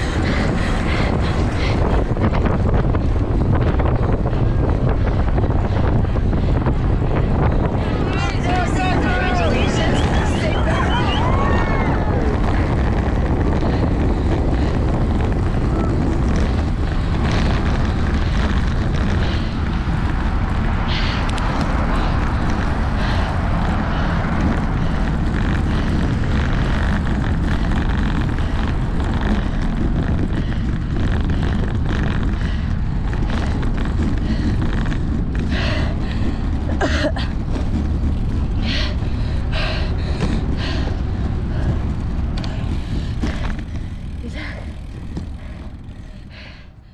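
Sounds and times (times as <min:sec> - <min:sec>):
wind buffeting a microphone: 0:00.0 - 0:46.9.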